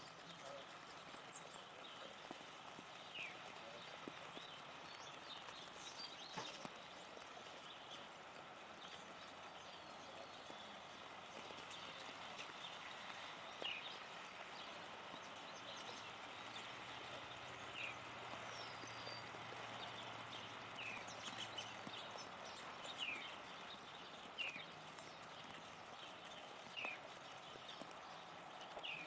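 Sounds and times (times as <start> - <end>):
light rain on leaves: 0.0 - 29.0.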